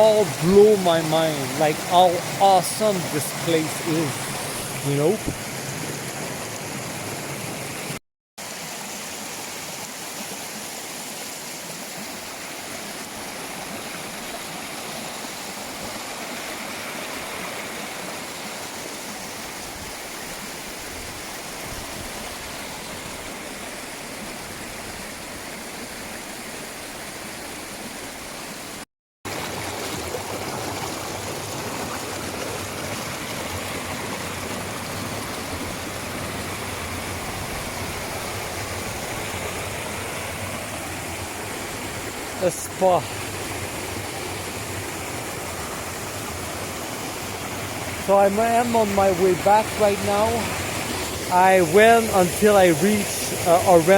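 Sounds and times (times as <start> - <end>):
waterfall and stream rushing: 0.0 - 53.9.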